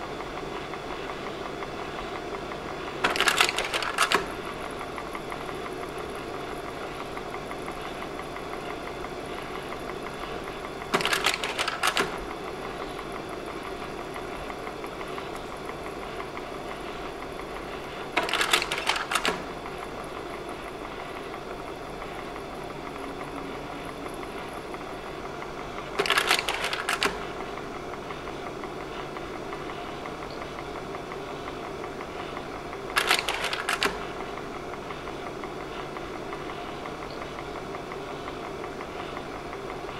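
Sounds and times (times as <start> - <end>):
projector fan humming: 0.0 - 39.9.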